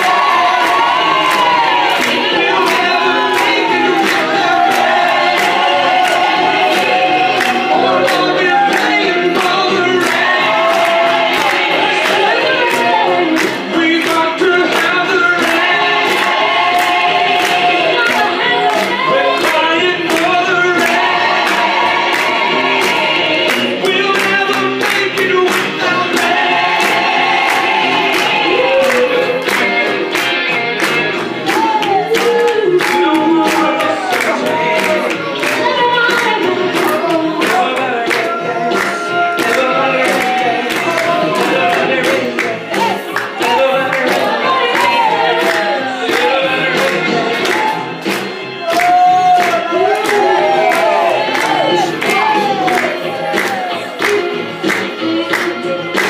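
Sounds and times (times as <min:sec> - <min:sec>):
group singing: 0:00.0 - 0:56.0
steady beat: 0:00.0 - 0:56.0.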